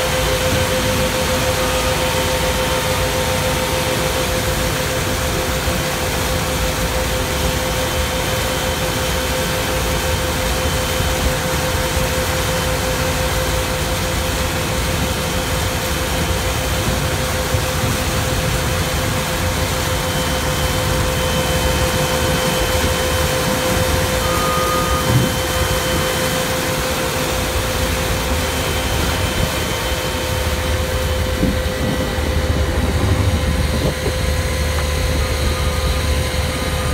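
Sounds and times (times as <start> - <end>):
constant hum: 0.0 - 36.9
snow melter rushing noise: 0.0 - 36.9.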